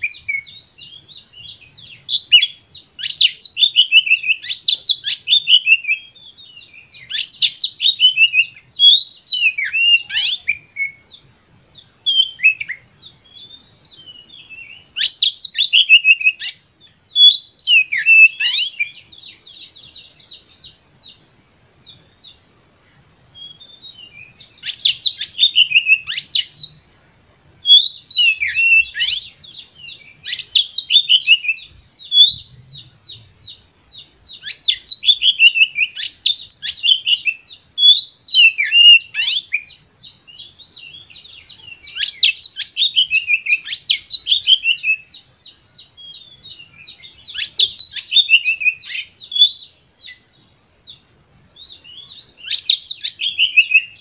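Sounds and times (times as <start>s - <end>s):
bird twittering: 0.0s - 21.2s, 21.8s - 26.9s, 27.6s - 54.0s
magpie-robin whistled song: 0.0s - 26.9s, 27.6s - 54.0s.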